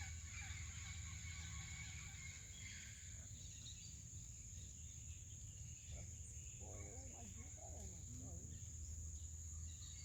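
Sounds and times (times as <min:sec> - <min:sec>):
birds chirping and warbling: 0:00.0 - 0:10.0.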